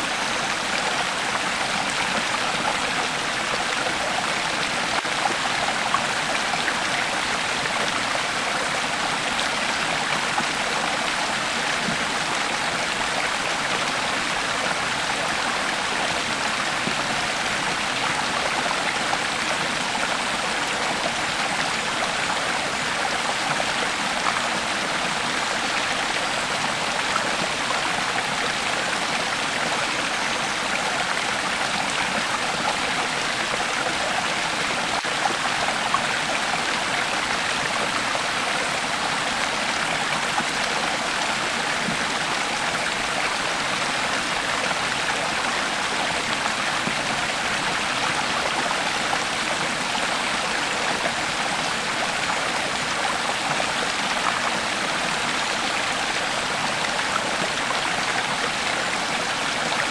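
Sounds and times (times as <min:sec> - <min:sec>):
creek water babbling over rocks: 0:00.0 - 0:59.9.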